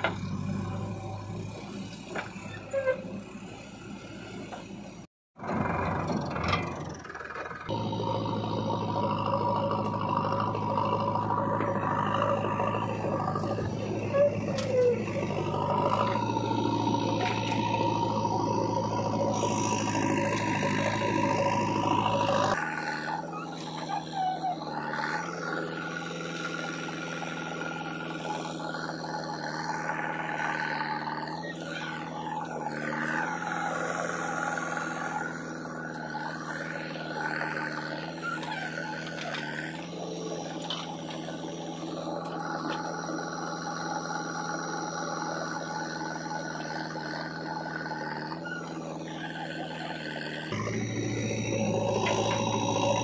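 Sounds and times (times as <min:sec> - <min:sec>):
diesel engine running: 0:00.0 - 0:53.0
steady hydraulic whine: 0:00.0 - 0:53.0.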